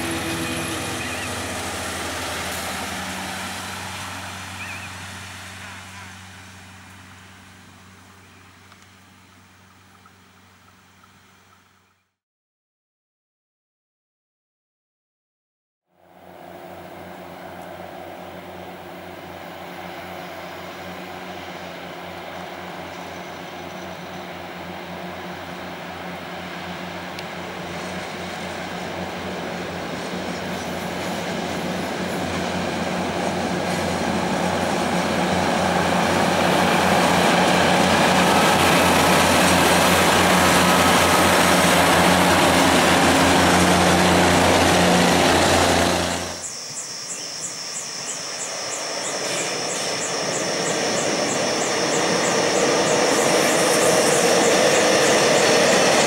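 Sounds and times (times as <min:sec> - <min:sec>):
train engines droning: 0:00.0 - 0:11.8, 0:16.0 - 0:56.0
wheel-on-rail rumble: 0:00.0 - 0:11.8, 0:16.0 - 0:46.5, 0:47.1 - 0:56.0.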